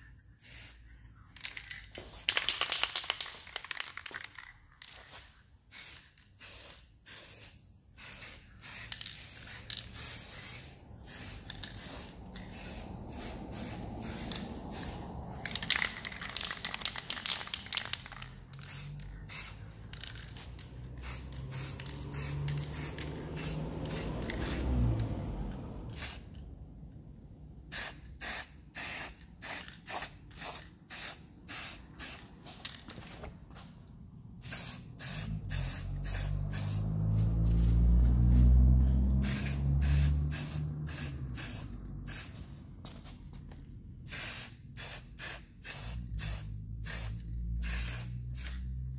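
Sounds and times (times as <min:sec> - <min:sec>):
spray-paint can hissing: 0:00.4 - 0:00.8, 0:02.3 - 0:25.1, 0:25.9 - 0:26.3, 0:27.7 - 0:32.6, 0:34.4 - 0:42.5, 0:44.0 - 0:48.9.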